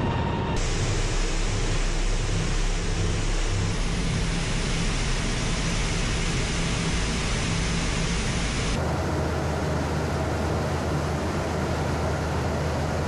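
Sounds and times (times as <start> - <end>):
aircraft cockpit engine and airflow noise: 0.0 - 13.0.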